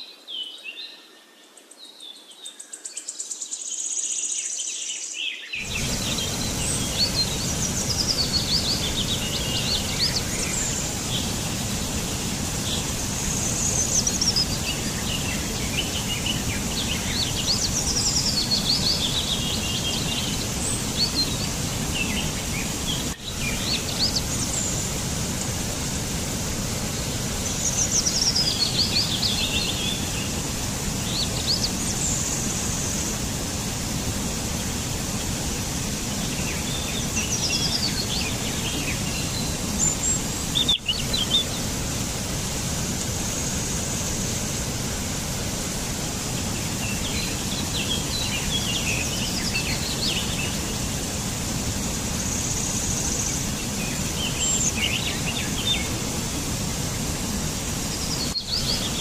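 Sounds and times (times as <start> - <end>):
outdoor background hiss: 0.0 - 59.0
songbirds singing: 0.0 - 59.0.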